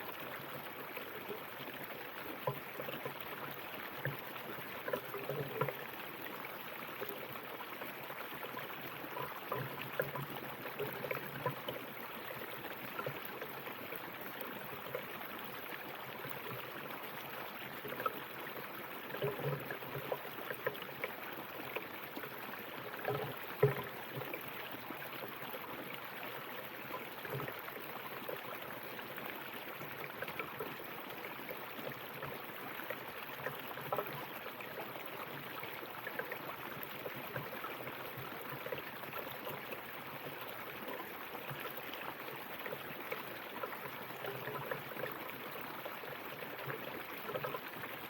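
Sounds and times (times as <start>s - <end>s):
river water flowing over rocks: 0.0s - 48.0s.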